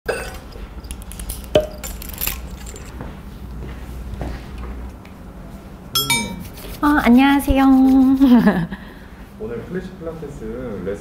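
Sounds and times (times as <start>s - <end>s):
low steady hum: 0.1s - 9.4s.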